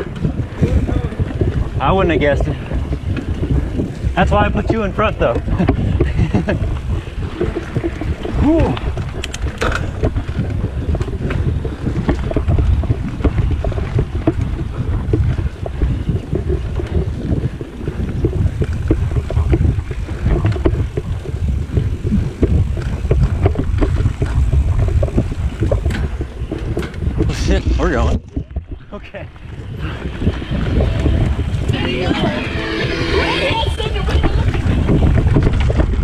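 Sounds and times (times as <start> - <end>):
bike rattles and clicks: 0.0 - 36.0
rumble of bike tyres: 0.0 - 36.0
wind buffeting microphone: 0.0 - 36.0.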